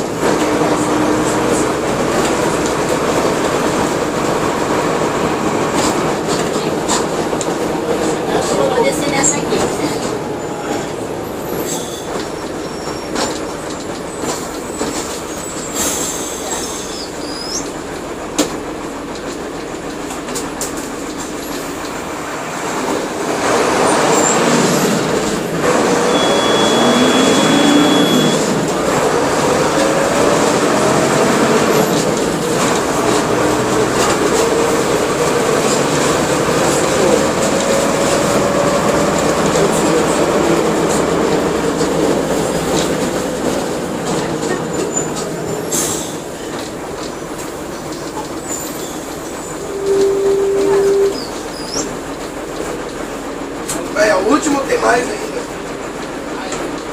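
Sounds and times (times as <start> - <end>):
bus engine running: 0.0 - 56.9
road noise: 0.0 - 56.9.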